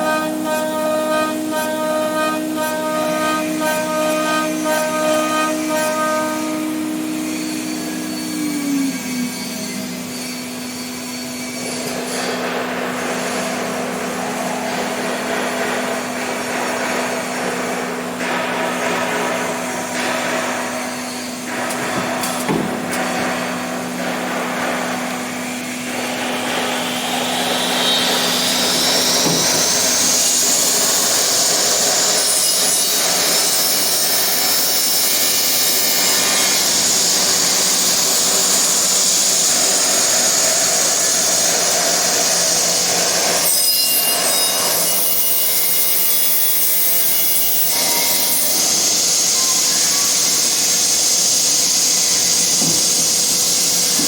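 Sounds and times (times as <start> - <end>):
router spindle high whine: 0.0 - 16.2, 19.2 - 54.0
wood cutting noise: 0.0 - 54.0.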